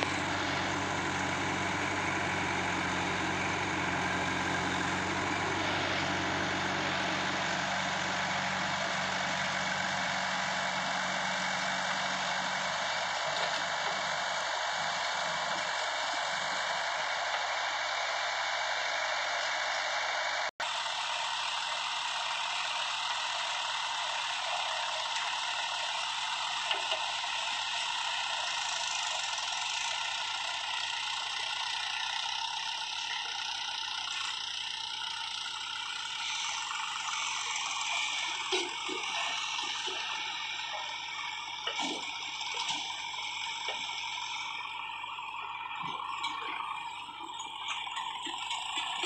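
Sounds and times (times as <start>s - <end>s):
backhoe diesel engine and hydraulics: 0.0s - 49.0s
tractor idling: 0.0s - 49.0s.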